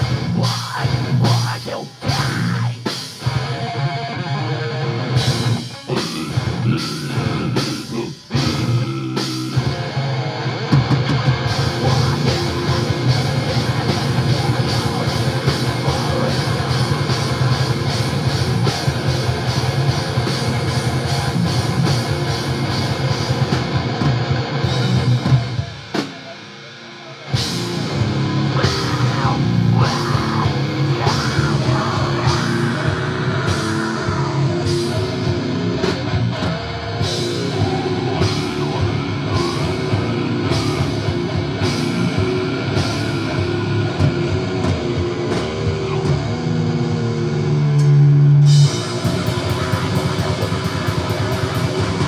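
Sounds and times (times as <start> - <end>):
live heavy rock band: 0.0 - 52.0.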